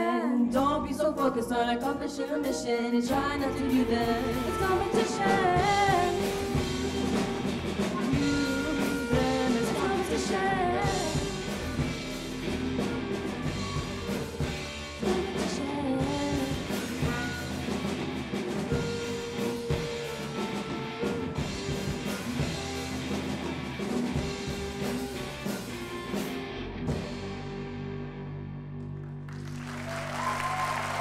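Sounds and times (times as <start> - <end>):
rock band playing: 3.0 - 28.8.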